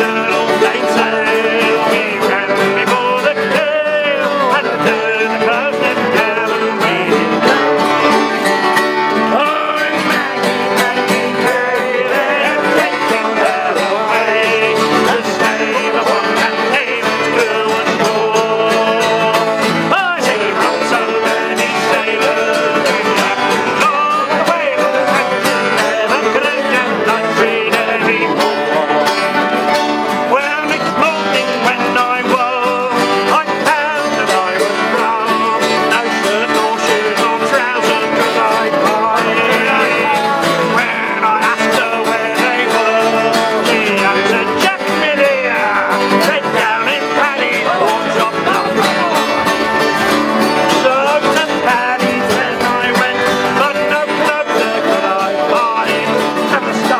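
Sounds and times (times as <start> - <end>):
button accordion: 0.0 - 56.9
mandolin: 0.0 - 56.9
men singing together: 0.0 - 56.9
strummed acoustic guitars: 0.0 - 56.9.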